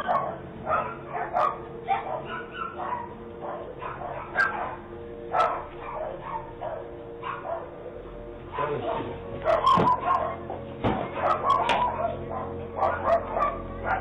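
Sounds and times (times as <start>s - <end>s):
dog barking: 0.0s - 7.9s, 8.5s - 14.0s.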